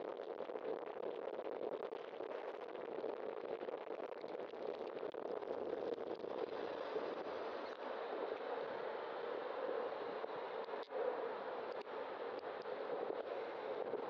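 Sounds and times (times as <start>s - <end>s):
wind rushing on microphone: 1.0s - 14.0s.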